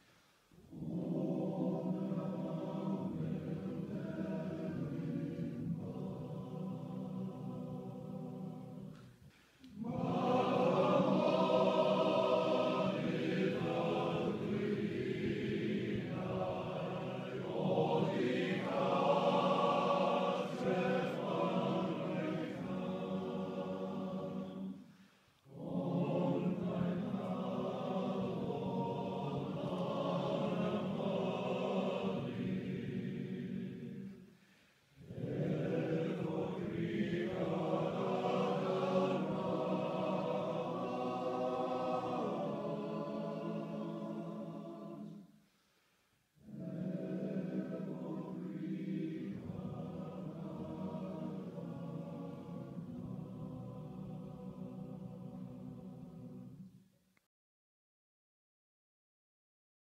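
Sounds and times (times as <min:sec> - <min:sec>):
choir singing slow song: 0:00.0 - 0:57.0.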